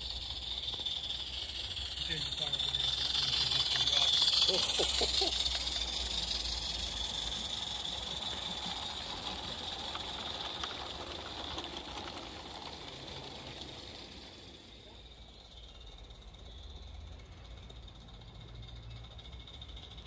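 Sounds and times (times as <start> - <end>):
steam locomotive hissing: 0.0 - 20.0.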